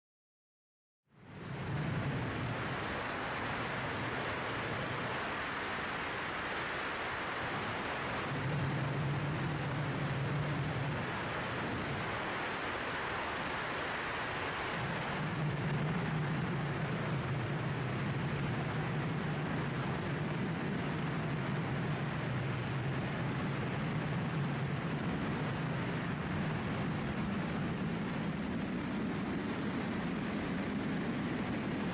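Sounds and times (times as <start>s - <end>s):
wind rushing over microphone: 1.2s - 31.9s.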